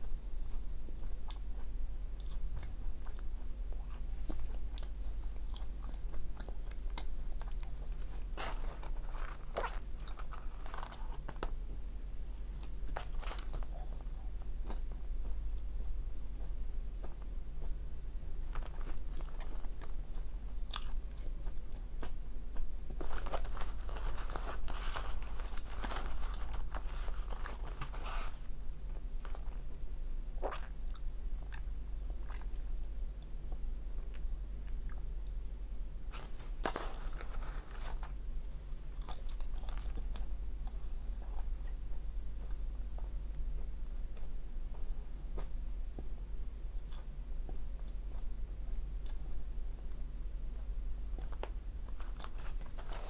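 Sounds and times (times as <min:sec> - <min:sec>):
steady low hum: 0:00.0 - 0:53.0
chewing french fries: 0:00.4 - 0:11.6, 0:12.3 - 0:17.8, 0:18.4 - 0:29.8, 0:30.4 - 0:35.1, 0:36.2 - 0:45.5, 0:46.7 - 0:53.0.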